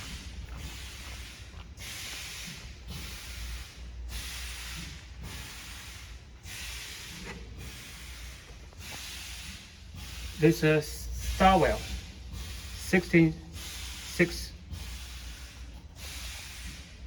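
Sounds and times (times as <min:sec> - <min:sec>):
compressed air hissing: 0:00.0 - 0:17.0.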